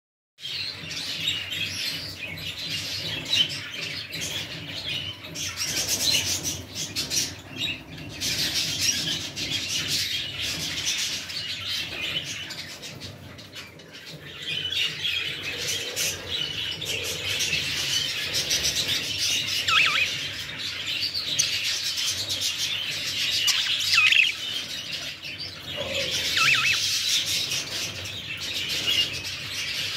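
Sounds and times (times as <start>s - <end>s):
budgerigars chattering and chirping: 0.4s - 29.9s.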